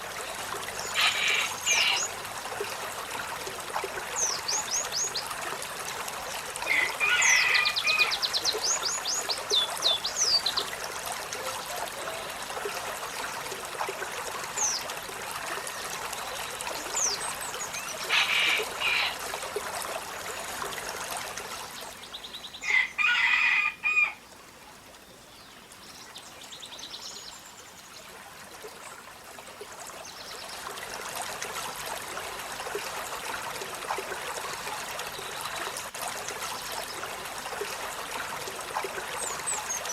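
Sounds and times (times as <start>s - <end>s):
trickle of running water: 0.0s - 39.9s.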